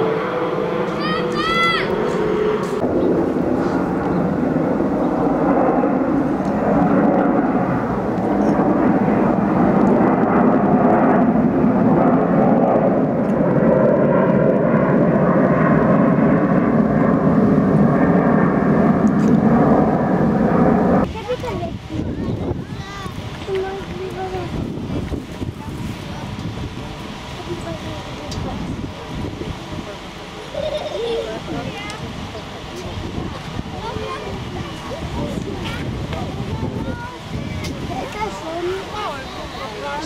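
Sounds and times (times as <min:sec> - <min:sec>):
jet engines passing overhead: 0:00.0 - 0:40.0.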